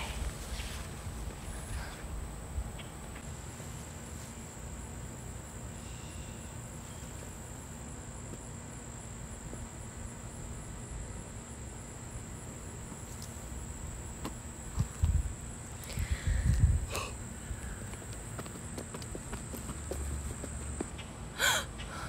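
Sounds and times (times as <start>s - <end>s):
insect chorus trilling: 4.3s - 22.0s.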